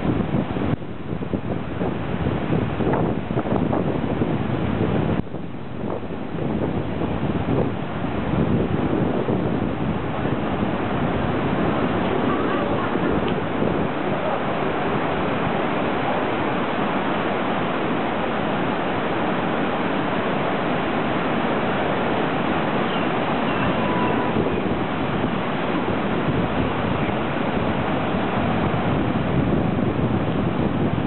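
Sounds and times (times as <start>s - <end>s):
surf breaking in rough seas: 0.0s - 31.0s
wind on microphone: 0.0s - 31.0s.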